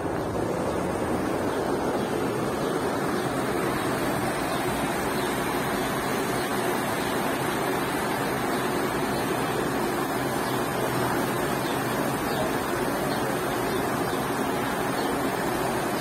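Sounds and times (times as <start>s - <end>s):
river water rushing over weir: 0.0s - 16.0s.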